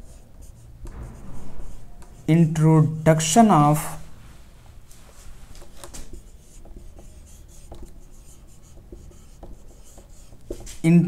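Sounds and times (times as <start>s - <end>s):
marker pen writing on whiteboard: 0.0s - 4.0s, 5.2s - 11.0s.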